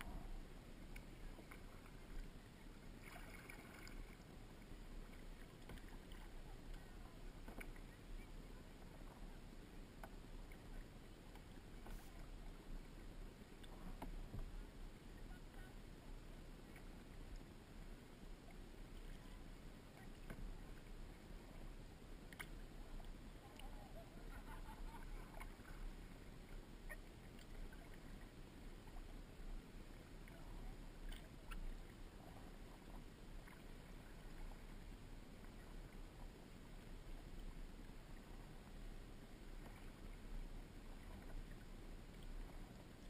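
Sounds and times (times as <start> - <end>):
kayak paddling on water: 0.0 - 43.0.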